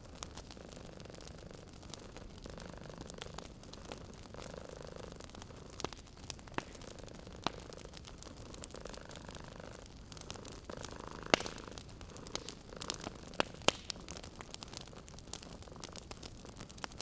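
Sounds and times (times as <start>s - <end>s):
wood fire crackling: 0.0s - 17.0s
cat purring: 0.4s - 16.7s.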